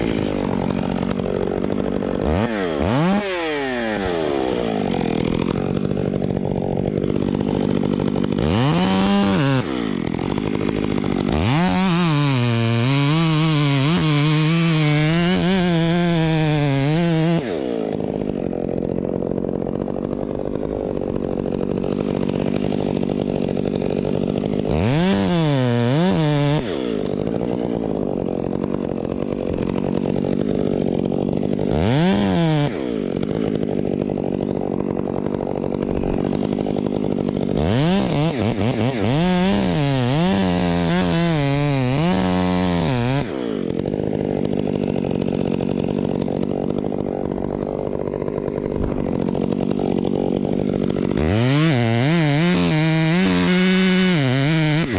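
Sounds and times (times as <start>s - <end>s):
chainsaw engine revving: 0.0s - 54.9s.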